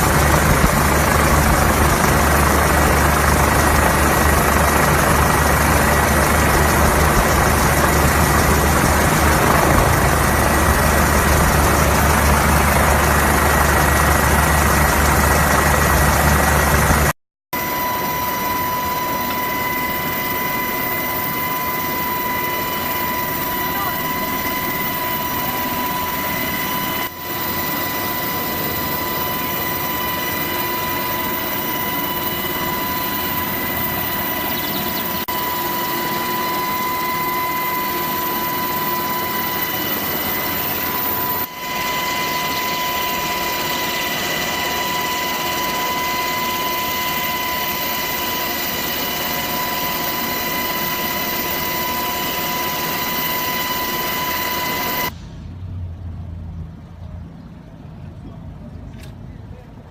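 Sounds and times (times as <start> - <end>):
steady high tone: 0.0 - 16.9, 17.6 - 55.2
helicopter running: 0.0 - 55.2.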